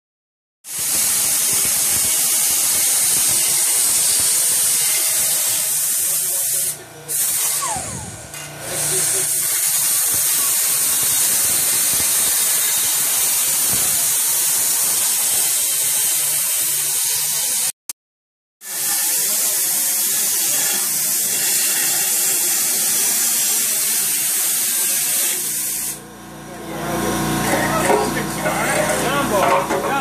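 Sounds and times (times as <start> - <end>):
cut-off wheel grinding steel pipe: 0.7 - 17.7, 18.6 - 26.0.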